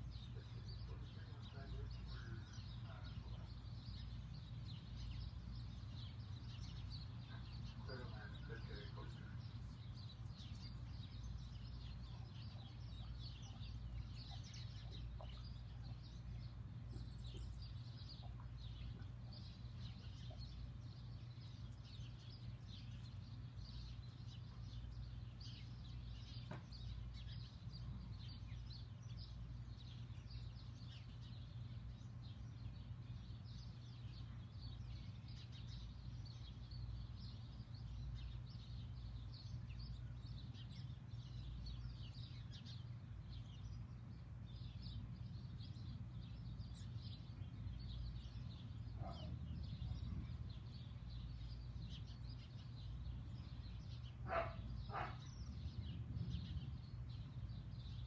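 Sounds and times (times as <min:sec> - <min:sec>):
low background rumble: 0:00.0 - 0:58.0
small birds chirping: 0:00.0 - 0:58.0.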